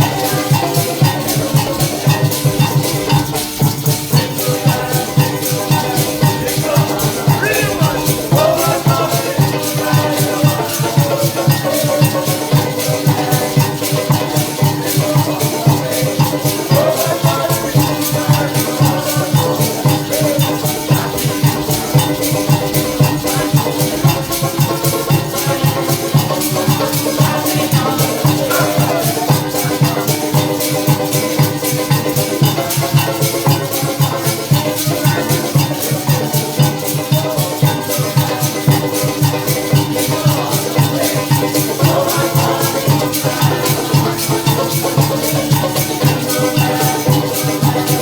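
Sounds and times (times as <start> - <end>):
band playing live: 0.0 - 48.0
maracas shaking: 0.0 - 48.0.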